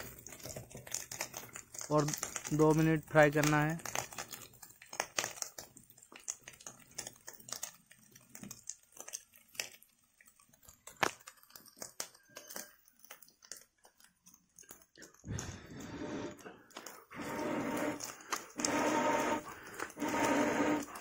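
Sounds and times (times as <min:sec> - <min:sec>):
fish crackling in hot oil: 0:00.0 - 0:21.0.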